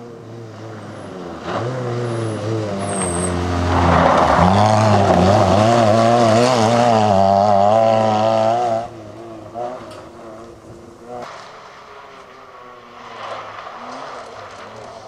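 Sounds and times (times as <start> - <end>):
rally car engine revving: 0.0 - 15.0
gravel spray: 0.3 - 15.0.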